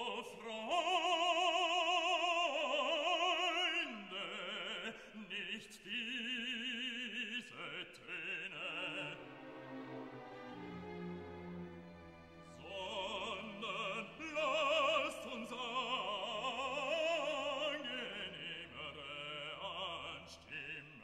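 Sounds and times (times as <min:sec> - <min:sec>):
operatic voice singing: 0:00.0 - 0:10.1, 0:12.5 - 0:21.0.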